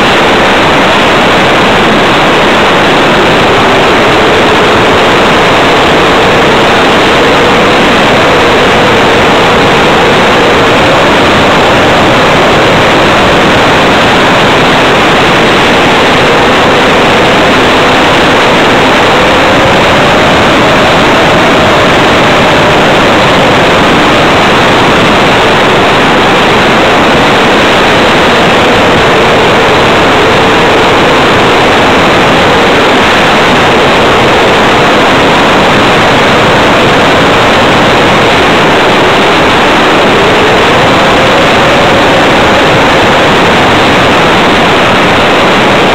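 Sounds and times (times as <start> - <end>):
model plane propeller drone: 0.0 - 45.9
wind rush over camera: 0.0 - 45.9.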